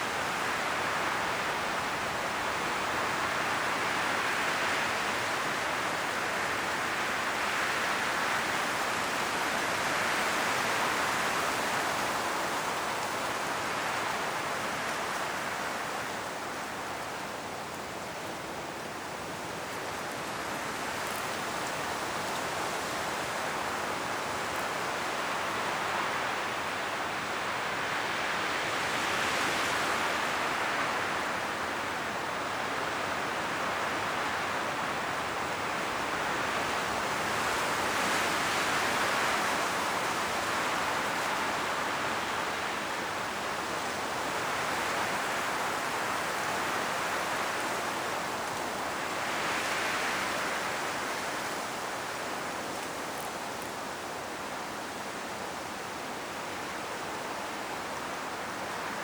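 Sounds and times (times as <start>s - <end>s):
wind rustling tree leaves: 0.0s - 59.0s.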